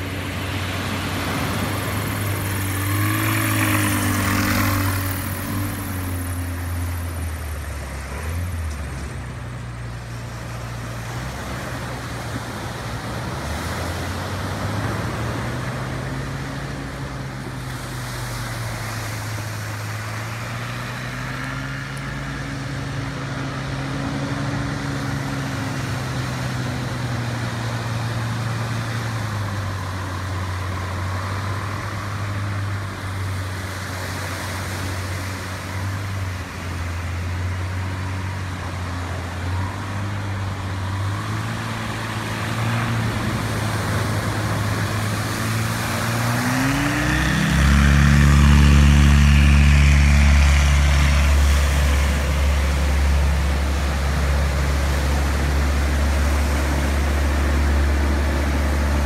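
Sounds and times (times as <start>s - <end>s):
light aircraft engine and propeller: 0.0s - 59.0s
surf washing: 0.0s - 59.0s.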